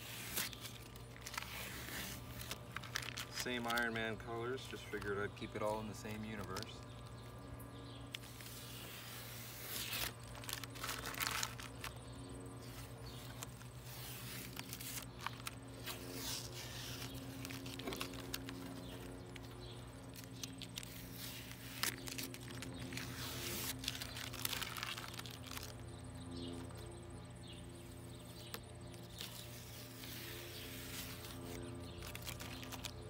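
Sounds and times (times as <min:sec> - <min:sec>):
rustling and crinkling: 0:00.0 - 0:07.4, 0:08.0 - 0:33.0
steady low hum: 0:00.0 - 0:33.0.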